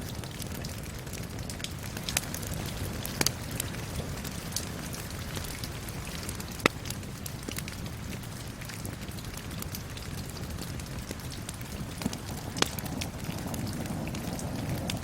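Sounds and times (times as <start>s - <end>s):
rain hiss: 0.0s - 15.0s
wood fire popping and snapping: 0.0s - 15.0s.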